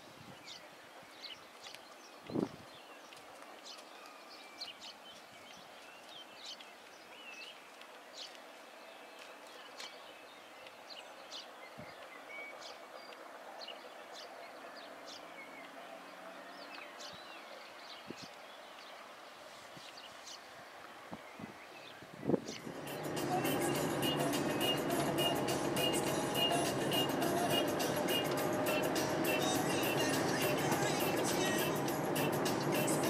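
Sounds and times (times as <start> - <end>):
low outdoor hiss: 0.0 - 33.0
small birds singing: 0.0 - 33.0.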